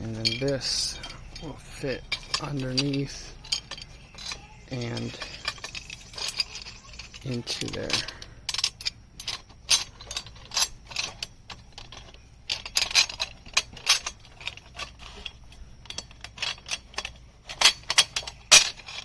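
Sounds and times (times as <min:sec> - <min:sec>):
metal parts clicking and clinking: 0:00.0 - 0:19.0.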